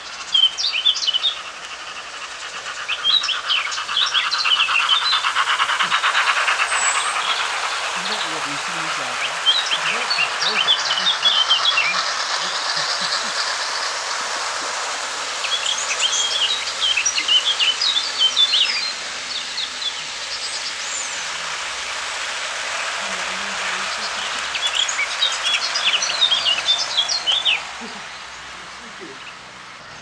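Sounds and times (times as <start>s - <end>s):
small birds chirping and twittering: 0.0s - 30.0s
steady background hiss: 0.0s - 30.0s.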